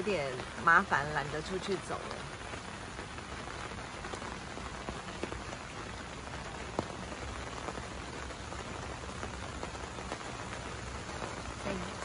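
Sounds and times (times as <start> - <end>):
rain on tent fabric: 0.0 - 12.0
sharp raindrop ticks: 0.0 - 12.0.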